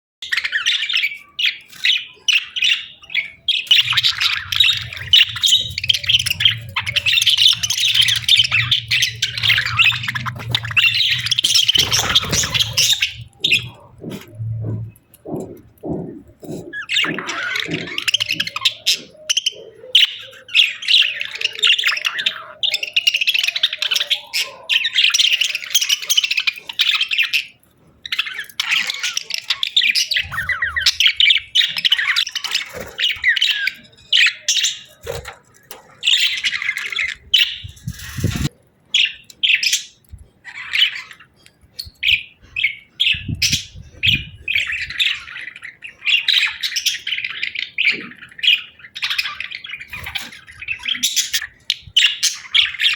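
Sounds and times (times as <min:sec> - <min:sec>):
budgerigars chirping and warbling: 0:00.2 - 0:52.9.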